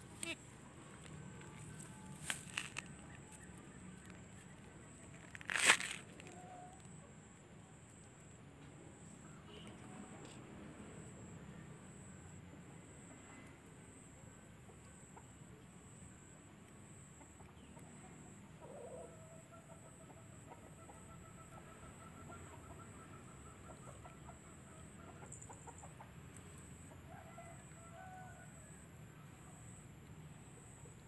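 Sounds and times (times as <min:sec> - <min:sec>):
faint chicken clucking: 0:00.0 - 0:10.4, 0:11.9 - 0:31.0.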